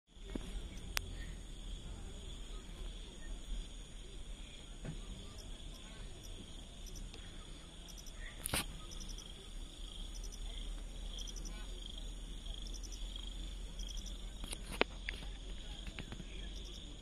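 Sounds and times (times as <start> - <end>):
faint murmuring voices: 0.1 - 17.0
high-pitched insect chorus: 0.2 - 17.0.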